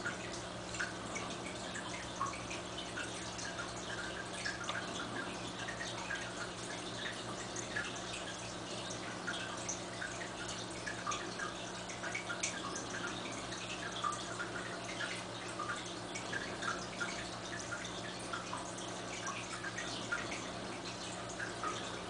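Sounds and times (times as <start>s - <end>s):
small water plops: 0.0s - 22.0s
steady low hum: 0.0s - 22.0s
water trickling and dripping: 0.0s - 22.0s.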